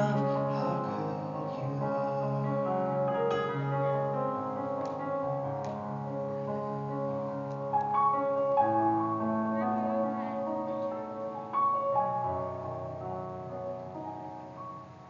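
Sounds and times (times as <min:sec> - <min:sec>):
electronic keyboard piano chords: 0:00.0 - 0:15.0.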